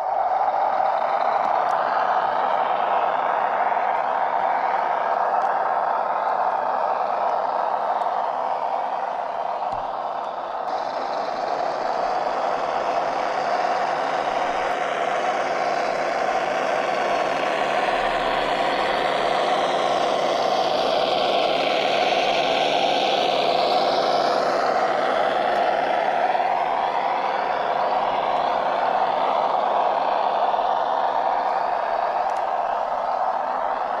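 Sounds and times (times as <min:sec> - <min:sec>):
high whine: 0:00.0 - 0:34.0
simulated truck engine from speaker: 0:00.0 - 0:34.0.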